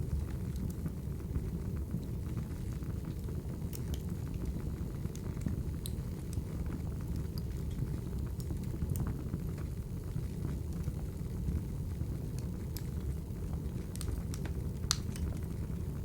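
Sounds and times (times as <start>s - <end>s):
low rumble of flames: 0.0s - 16.0s
burning logs popping and snapping: 2.0s - 11.4s, 12.0s - 16.0s.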